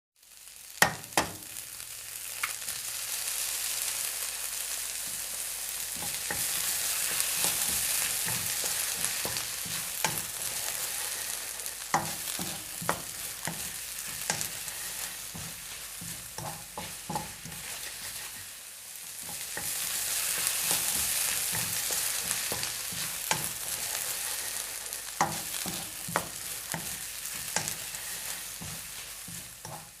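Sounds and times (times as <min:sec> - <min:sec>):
egg sizzling in a hot pan: 0:00.2 - 0:30.0.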